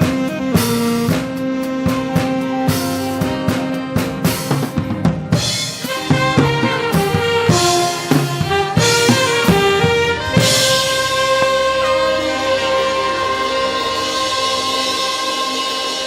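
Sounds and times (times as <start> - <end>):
brass-like lead melody: 0.0 - 16.0
drum kit: 0.0 - 16.0.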